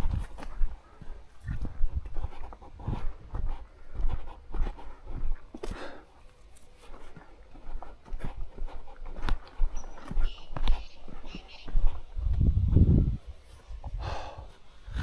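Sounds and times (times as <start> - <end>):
crunches and rustles underfoot: 0.0 - 14.0
footsteps on a trail: 0.0 - 15.0.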